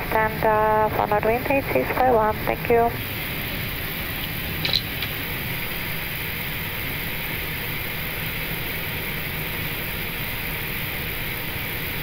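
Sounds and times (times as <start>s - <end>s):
aircraft engines idling: 0.0s - 10.2s
air-conditioning noise: 0.0s - 12.0s.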